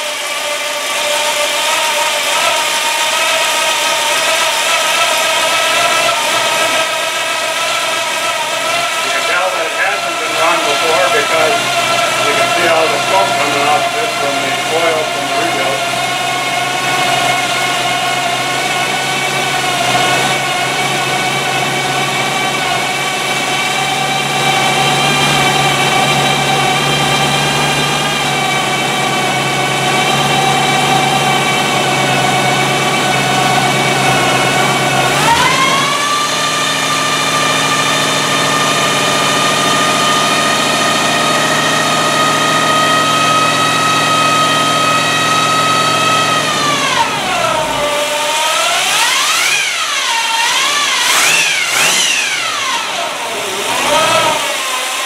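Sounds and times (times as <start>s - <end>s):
car engine idling: 0.0s - 54.6s.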